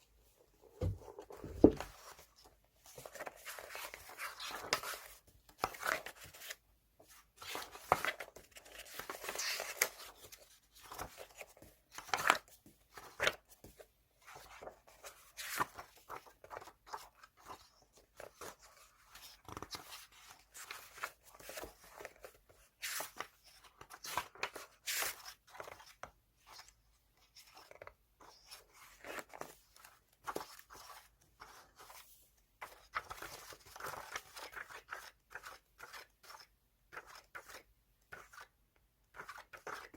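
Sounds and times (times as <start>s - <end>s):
paper rustling: 0.8s - 38.5s.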